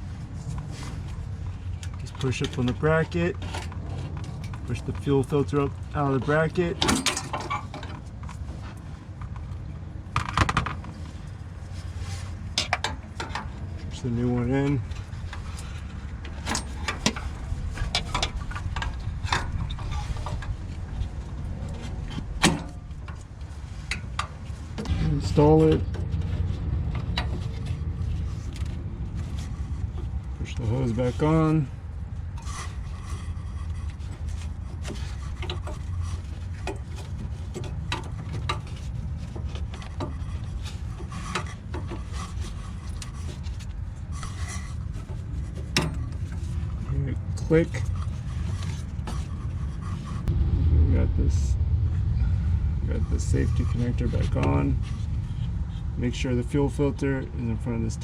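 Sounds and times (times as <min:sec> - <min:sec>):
steady low hum: 0:00.0 - 0:58.0
steady low rumble: 0:00.0 - 0:58.0.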